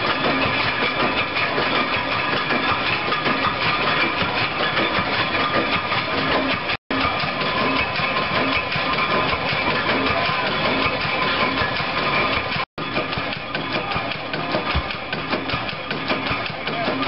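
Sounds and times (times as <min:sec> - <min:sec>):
stationary engine running: 0:00.0 - 0:17.0
steady ringing tones: 0:00.0 - 0:17.0.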